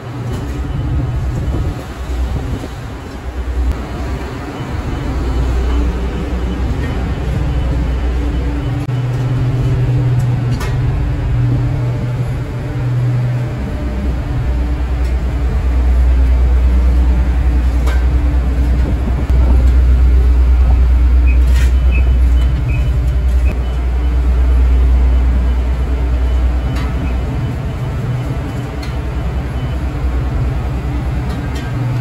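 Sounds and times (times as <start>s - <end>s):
diesel engine droning: 0.0s - 32.0s.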